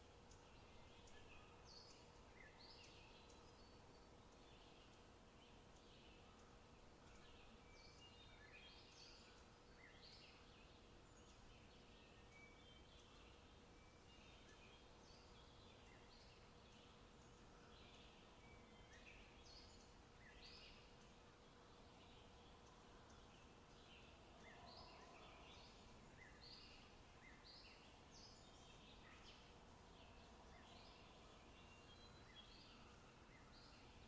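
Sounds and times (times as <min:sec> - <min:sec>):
faint steady hum: 0:00.0 - 0:34.0
quiet hiss: 0:00.0 - 0:34.0
small birds chirping and trilling: 0:00.2 - 0:34.0.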